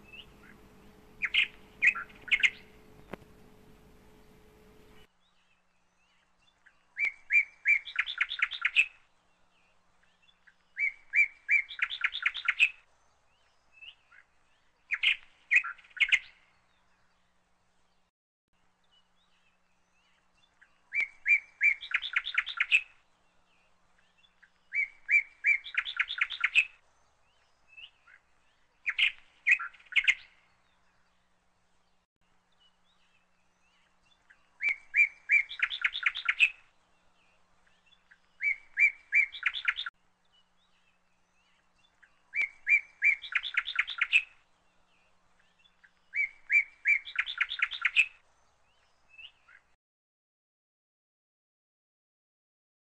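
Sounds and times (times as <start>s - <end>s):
songbird singing with trill: 0.0s - 18.1s, 18.8s - 49.8s.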